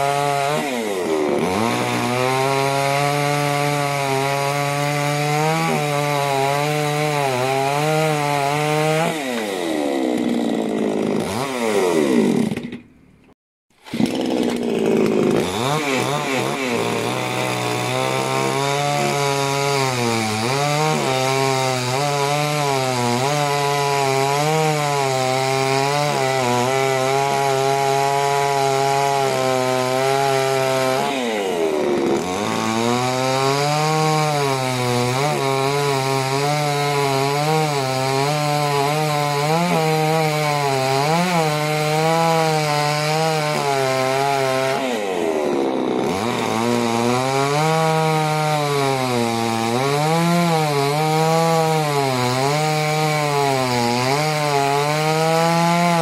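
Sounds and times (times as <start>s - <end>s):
chainsaw cutting timber: 0.0s - 56.0s.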